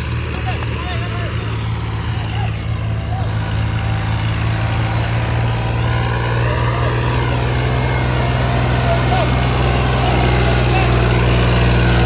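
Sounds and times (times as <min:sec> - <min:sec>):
tractor diesel engine running: 0:00.0 - 0:12.0
wheels churning mud: 0:00.0 - 0:12.0.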